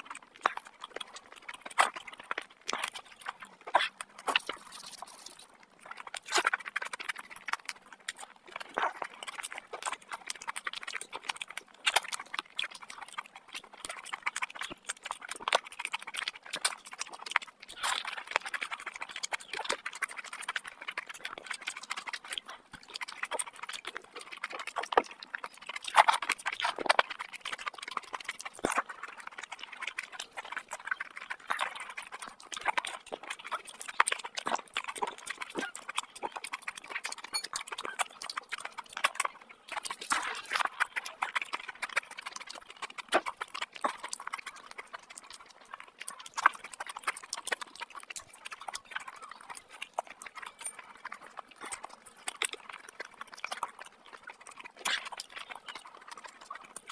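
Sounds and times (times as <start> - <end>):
wet chewing and mouth clicks: 0.0 - 56.9.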